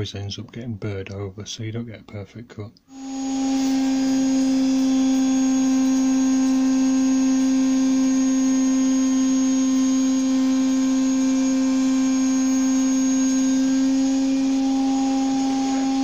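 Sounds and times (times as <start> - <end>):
router whining while cutting wood: 2.9 - 16.0.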